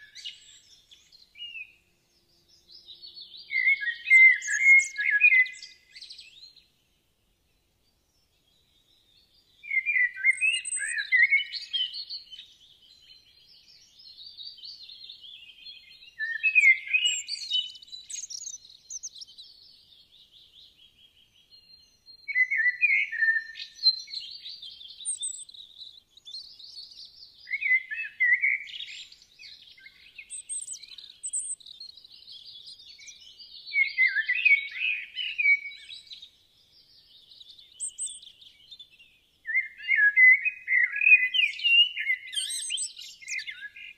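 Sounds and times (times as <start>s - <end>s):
quiet bird twittering: 0.0s - 43.9s
songbirds chirping and warbling: 0.0s - 43.9s.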